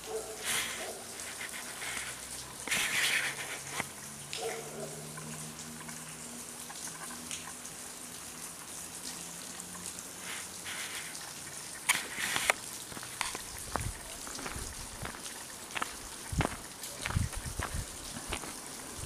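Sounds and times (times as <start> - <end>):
steady hiss: 0.0 - 4.2, 5.2 - 19.0
water dripping: 0.0 - 19.0.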